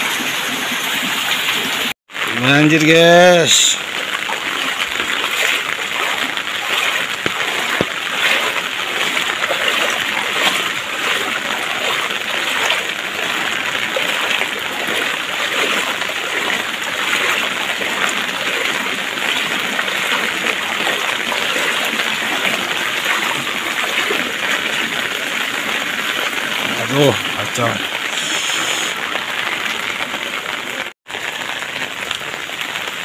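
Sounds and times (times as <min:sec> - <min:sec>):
heavy rain on water: 0:00.0 - 0:33.0.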